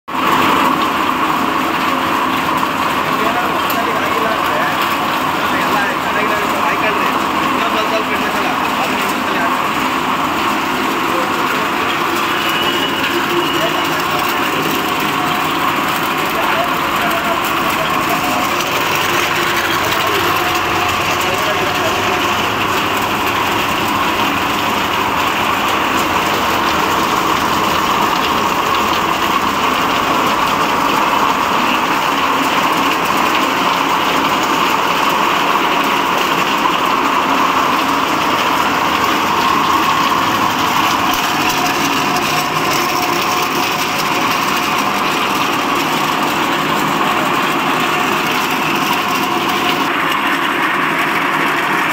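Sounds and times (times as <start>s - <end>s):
nut dehusking machine whirring: 0.1s - 51.9s.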